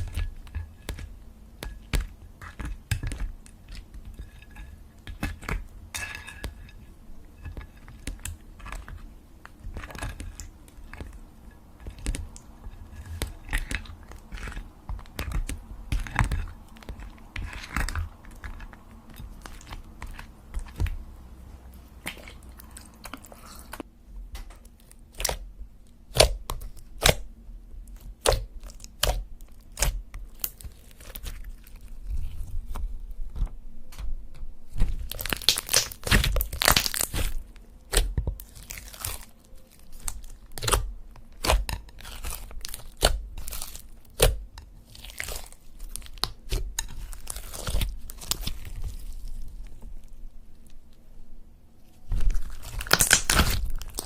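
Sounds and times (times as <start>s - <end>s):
crisp crunching and crackling: 0.0s - 23.9s, 27.9s - 51.0s, 51.8s - 54.0s.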